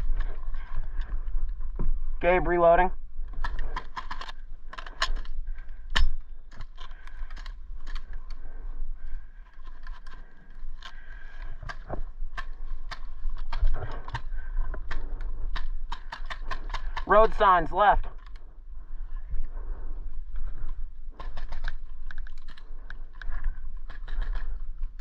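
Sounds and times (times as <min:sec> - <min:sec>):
airsoft gear clicking and rattling: 0:00.0 - 0:25.0.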